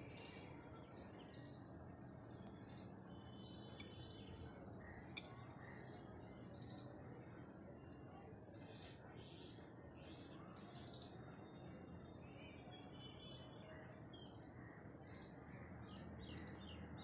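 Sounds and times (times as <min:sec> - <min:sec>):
low steady background noise: 0:00.0 - 0:17.0
small birds chirping: 0:00.0 - 0:17.0.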